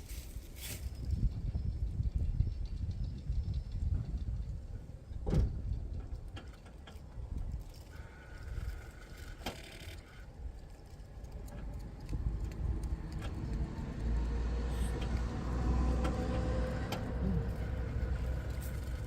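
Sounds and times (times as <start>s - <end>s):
car engine low rumble: 0.0s - 9.4s, 10.0s - 19.0s.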